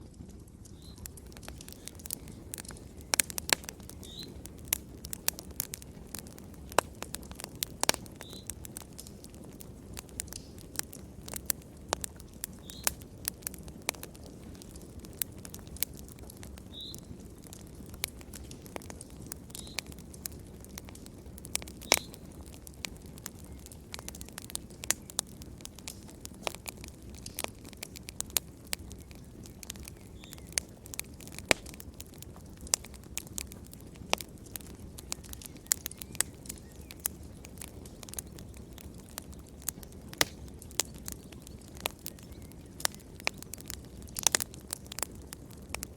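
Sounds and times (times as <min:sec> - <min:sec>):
low rumble of flames: 0:00.0 - 0:45.9
wood fire crackling: 0:00.0 - 0:45.9.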